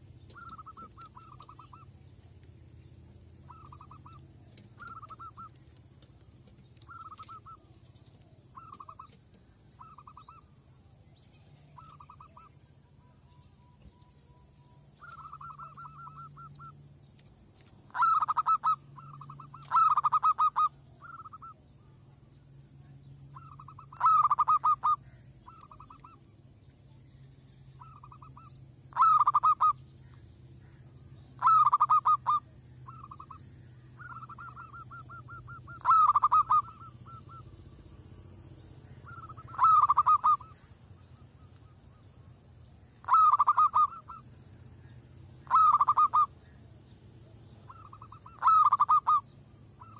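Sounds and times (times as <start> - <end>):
dove cooing trills: 0.0 - 2.4, 3.1 - 10.5, 11.6 - 16.8, 17.9 - 22.0, 23.3 - 26.3, 27.8 - 30.8, 31.4 - 42.3, 43.0 - 46.6, 47.5 - 49.9.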